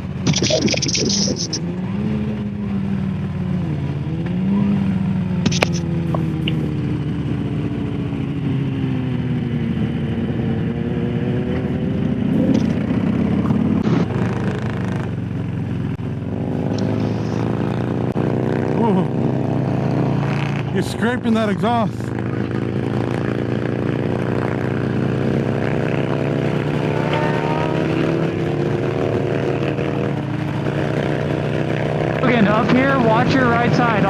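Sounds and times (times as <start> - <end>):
motorcycle engine cruising: 0.0 - 34.0.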